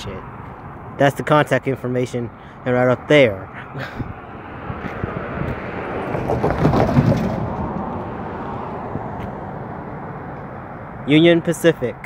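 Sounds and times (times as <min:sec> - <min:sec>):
vehicle passing by: 0:02.3 - 0:12.0.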